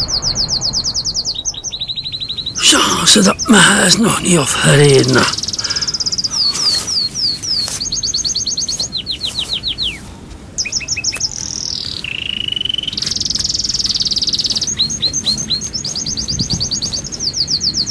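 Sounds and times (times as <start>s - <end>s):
songbird singing: 0.0s - 17.9s.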